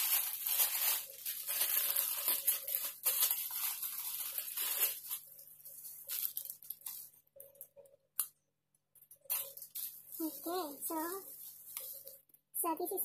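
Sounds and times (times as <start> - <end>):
plastic wrapping crinkling: 0.0 - 7.9, 9.0 - 12.3.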